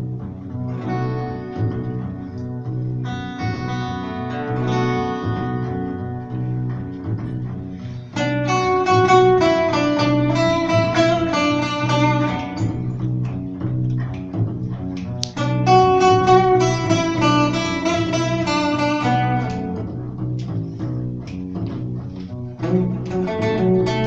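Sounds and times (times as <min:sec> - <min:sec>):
acoustic guitar jazz playing: 0:00.0 - 0:24.0
upright bass: 0:00.0 - 0:24.0.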